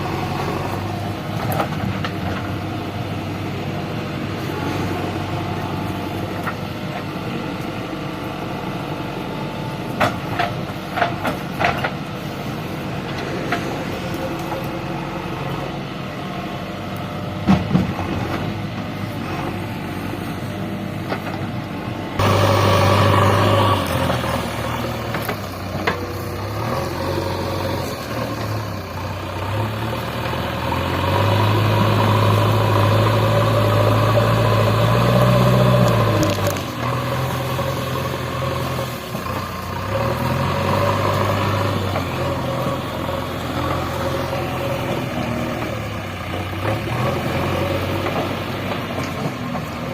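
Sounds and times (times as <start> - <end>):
backhoe diesel engine running: 0.0 - 49.9.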